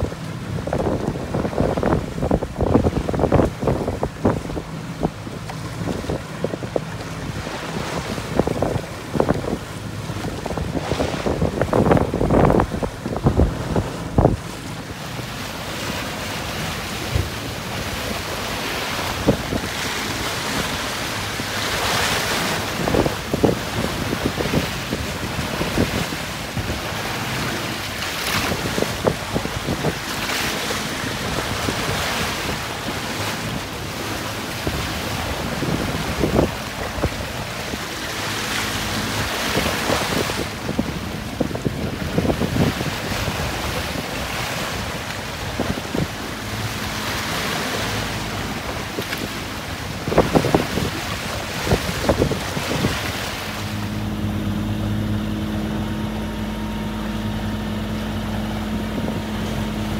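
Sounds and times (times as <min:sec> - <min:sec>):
sea water splashing along hull: 0:00.0 - 0:59.9
water slaps on hull: 0:00.0 - 0:59.9
wind buffeting microphone: 0:00.0 - 0:59.9.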